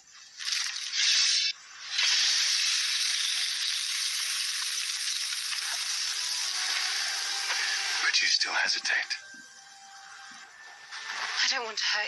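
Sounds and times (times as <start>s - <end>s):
steady hissing noise: 0.0s - 12.0s.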